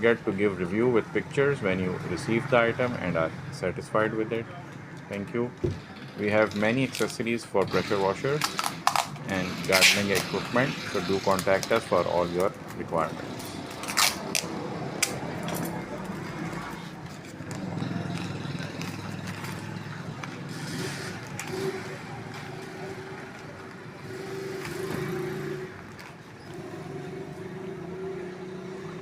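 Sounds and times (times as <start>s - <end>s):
engine hum: 0.0s - 29.0s.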